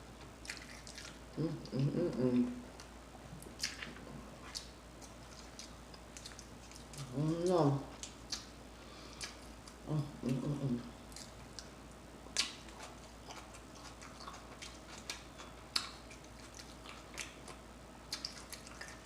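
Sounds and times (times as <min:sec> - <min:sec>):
close-miked chewing: 0:00.1 - 0:19.0.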